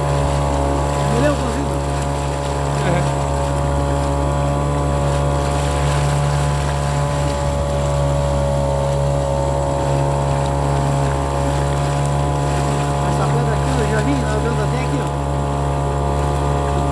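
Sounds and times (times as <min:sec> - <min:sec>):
boat motor droning: 0:00.0 - 0:16.9.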